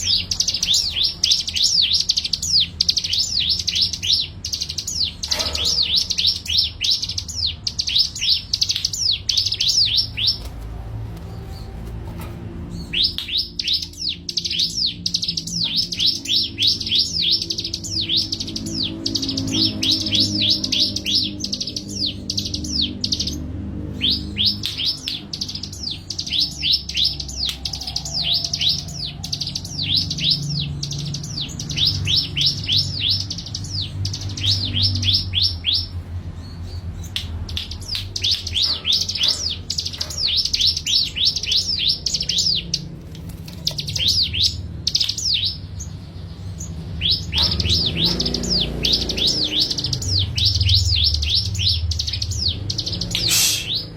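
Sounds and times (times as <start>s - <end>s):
songbird chirping: 0.0s - 53.9s.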